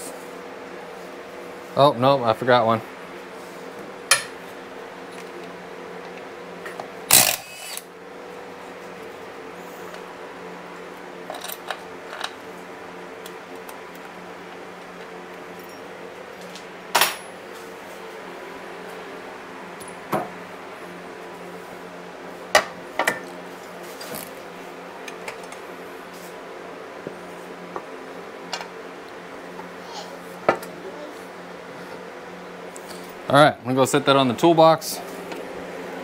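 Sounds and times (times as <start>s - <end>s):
shop fan humming: 0.0s - 36.0s.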